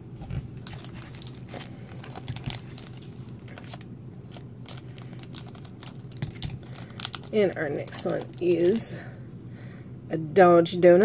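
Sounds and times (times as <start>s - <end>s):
plastic wrapper crinkling: 0.2s - 9.0s.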